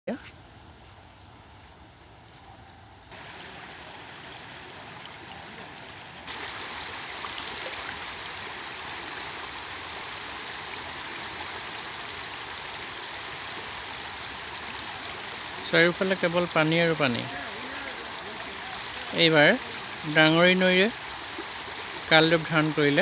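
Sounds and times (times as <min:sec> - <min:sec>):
floodwater rushing: 0:03.1 - 0:23.0.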